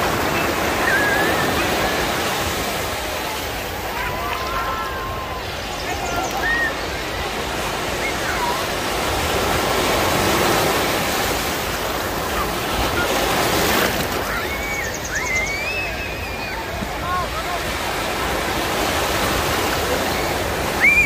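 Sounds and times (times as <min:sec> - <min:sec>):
waves breaking on shore: 0:00.0 - 0:21.0.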